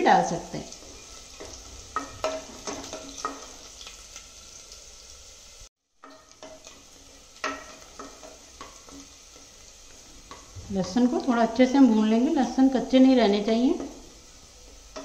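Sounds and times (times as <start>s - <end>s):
spices sizzling in hot ghee: 0.0s - 15.0s.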